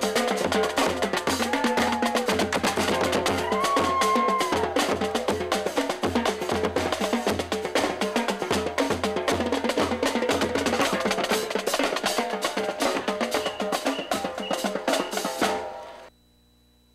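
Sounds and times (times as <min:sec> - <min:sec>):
upbeat music with percussion and bass: 0:00.0 - 0:16.0.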